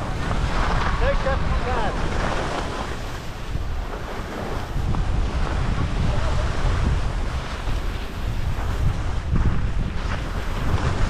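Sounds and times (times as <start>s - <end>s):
skis sliding on packed snow: 0.0s - 11.0s
wind buffeting microphone: 0.0s - 11.0s.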